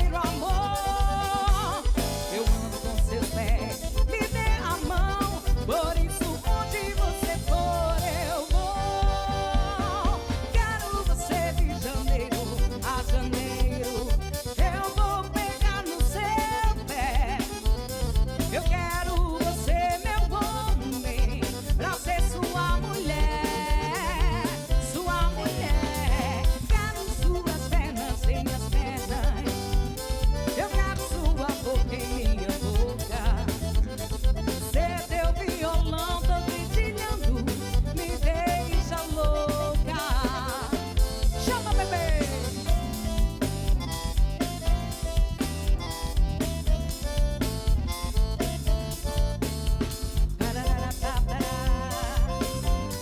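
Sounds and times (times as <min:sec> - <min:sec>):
live band playing instrumental: 0:00.0 - 0:53.0.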